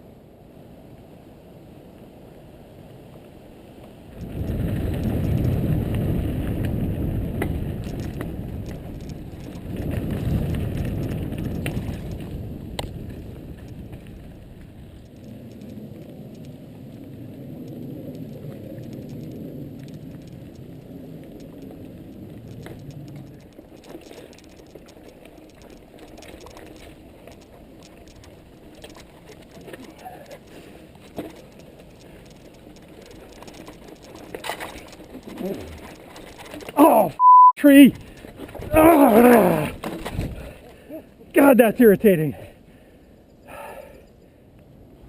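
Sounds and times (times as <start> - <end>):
bike tyres rolling on dirt: 0.0 - 45.0
bike rattling: 4.0 - 37.0, 37.7 - 44.3.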